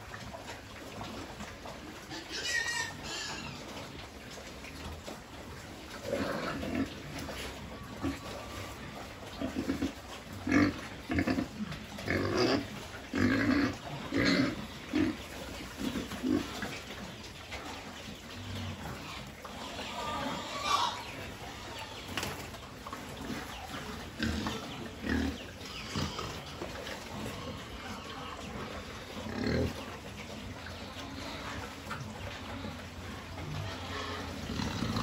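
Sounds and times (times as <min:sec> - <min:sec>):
pigs grunting: 0:00.0 - 0:35.0.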